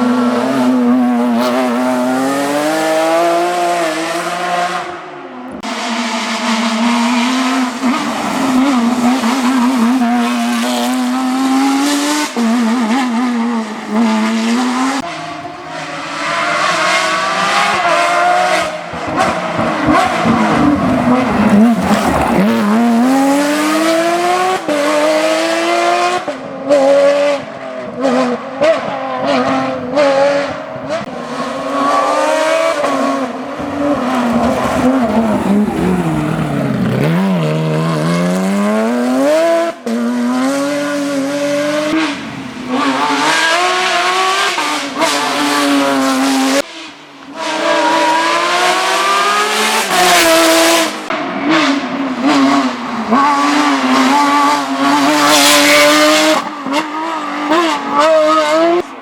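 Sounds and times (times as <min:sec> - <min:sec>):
car engine revving at full throttle: 0:00.0 - 0:59.0.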